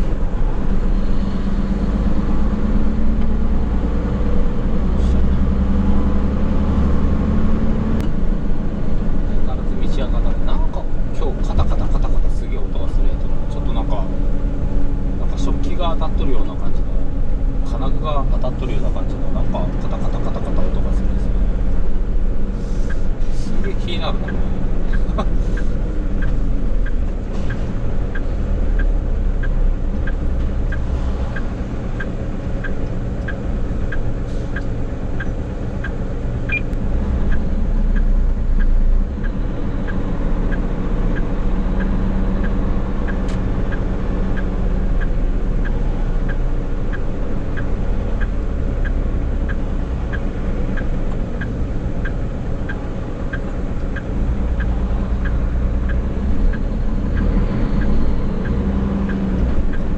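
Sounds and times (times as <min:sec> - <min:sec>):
diesel truck engine rumbling: 0:00.0 - 0:59.9
turn signal ticking: 0:00.0 - 0:59.9.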